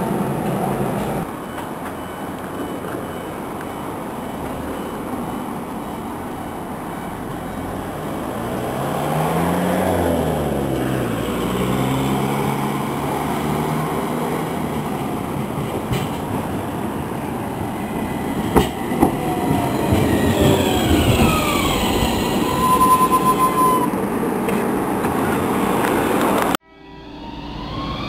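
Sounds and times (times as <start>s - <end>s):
electric tram humming: 0.0s - 28.0s
road traffic passing: 0.0s - 28.0s.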